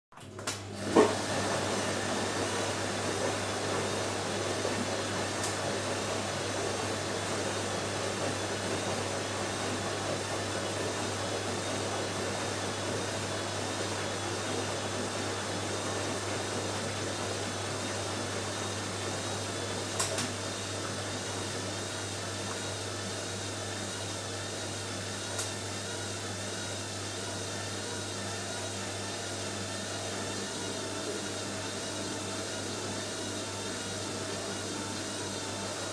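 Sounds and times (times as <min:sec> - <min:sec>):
washing machine spinning: 0:00.1 - 0:35.9.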